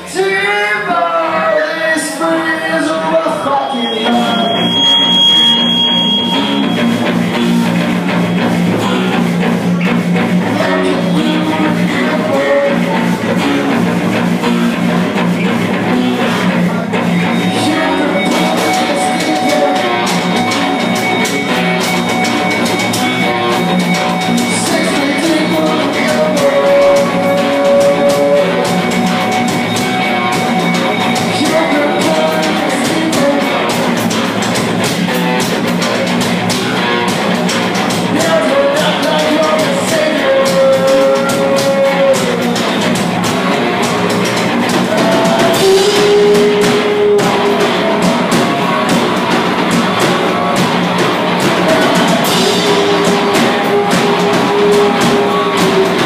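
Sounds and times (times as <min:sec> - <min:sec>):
live metal band playing: 0:00.0 - 0:56.0.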